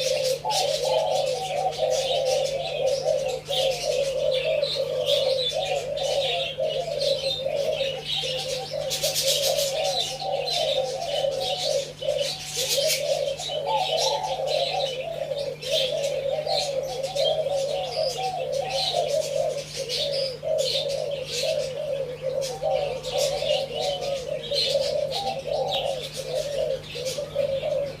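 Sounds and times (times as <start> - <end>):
doves cooing: 0.0 - 28.0
small birds chirping: 0.0 - 28.0.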